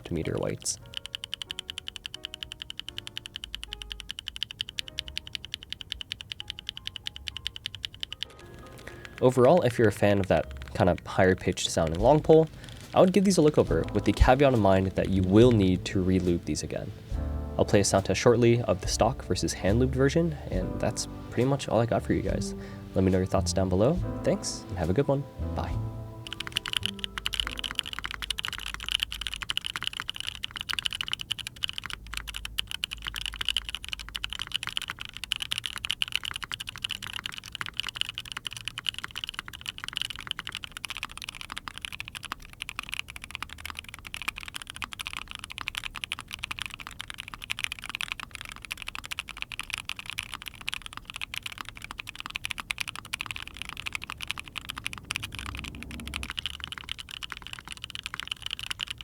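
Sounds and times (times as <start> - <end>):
typing on mechanical keyboard: 0.0 - 16.8, 23.0 - 59.0.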